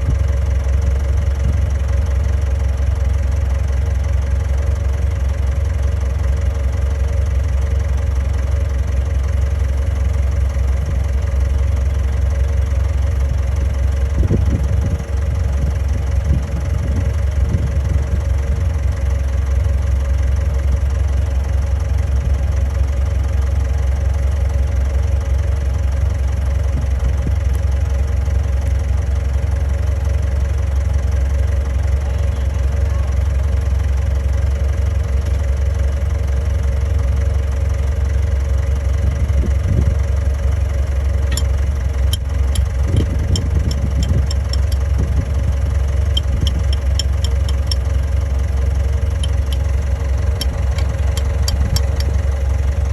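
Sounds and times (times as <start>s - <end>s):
bulldozer diesel engine droning: 0.0s - 52.9s.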